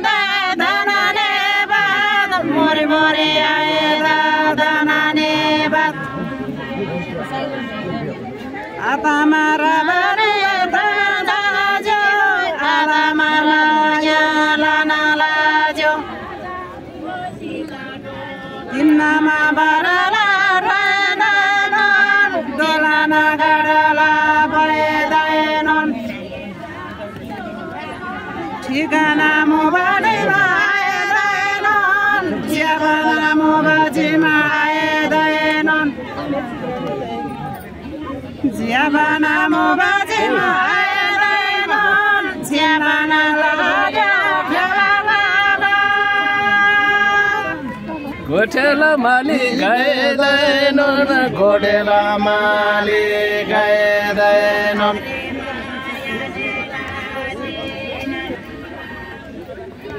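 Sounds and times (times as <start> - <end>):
women singing in unison: 0.0 - 59.9.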